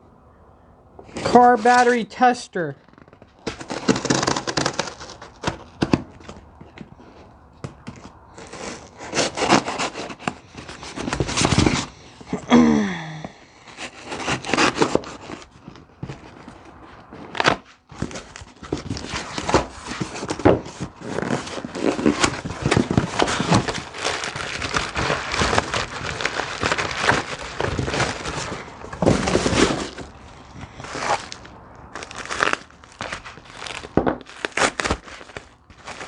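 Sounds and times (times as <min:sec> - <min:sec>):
cardboard box rustling and crinkling: 0:02.7 - 0:12.5, 0:13.6 - 0:36.0.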